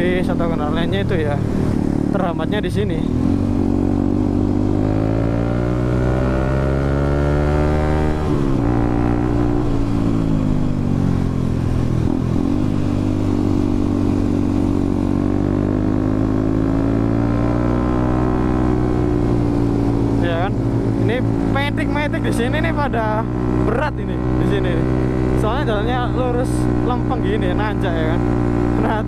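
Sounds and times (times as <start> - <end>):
motorcycle engine revving under load: 0.0 - 29.0.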